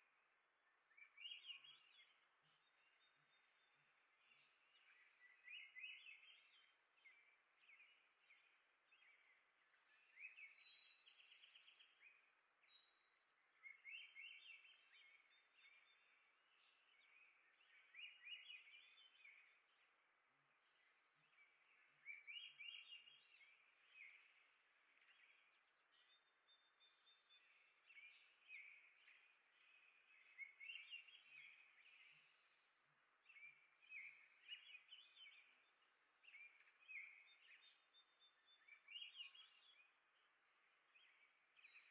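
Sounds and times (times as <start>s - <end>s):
small songbirds chirping: 0.0s - 41.9s.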